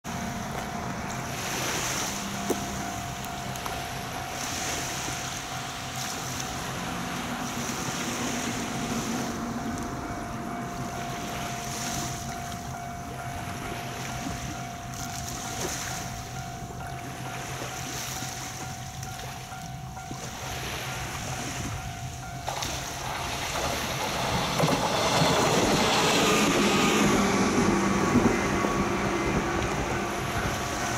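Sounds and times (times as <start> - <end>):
electric train passing: 0.0 - 30.9
wind and water rushing: 0.0 - 30.9.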